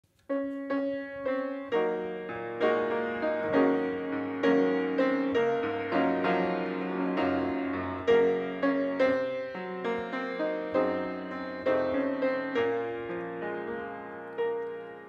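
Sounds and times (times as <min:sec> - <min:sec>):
grand piano playing: 0:00.2 - 0:15.0.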